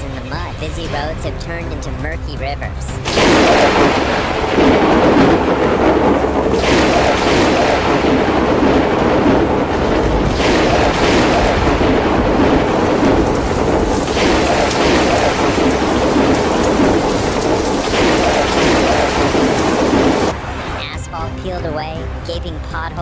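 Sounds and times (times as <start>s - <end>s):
heavy rain: 0.0s - 22.2s
low thunder rumble: 0.0s - 22.2s.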